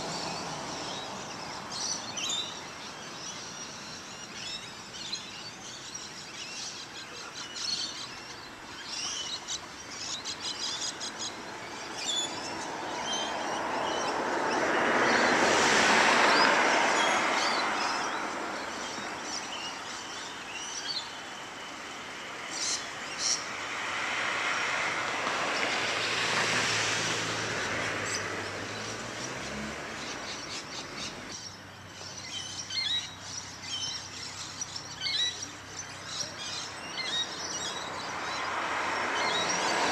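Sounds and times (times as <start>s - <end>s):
cars passing: 0.0s - 4.2s, 8.7s - 39.9s
small birds chirping: 0.0s - 24.8s, 27.4s - 39.9s.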